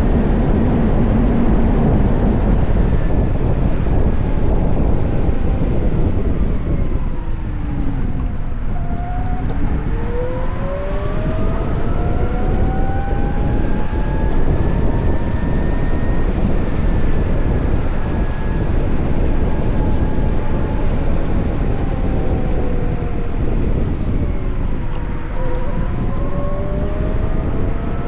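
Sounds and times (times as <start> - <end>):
wind and road noise: 0.0 - 28.0.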